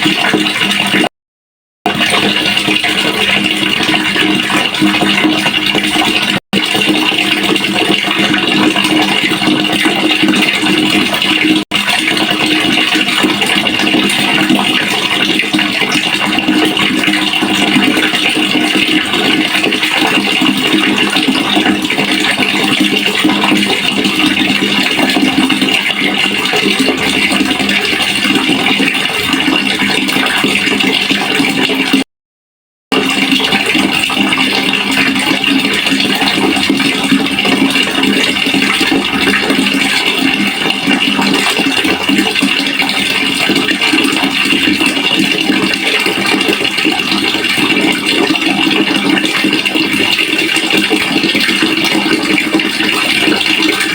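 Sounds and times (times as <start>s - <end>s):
water running into a pail: 0.0s - 1.1s, 1.9s - 32.1s, 32.9s - 53.9s.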